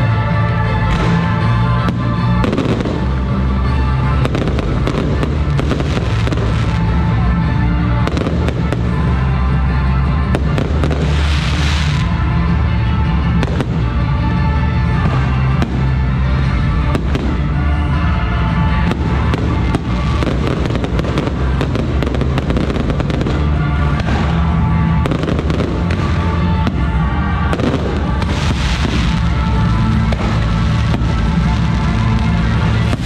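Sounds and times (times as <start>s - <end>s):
fireworks bursting and crackling: 0.0s - 33.0s
loud music with heavy bass: 0.0s - 33.0s.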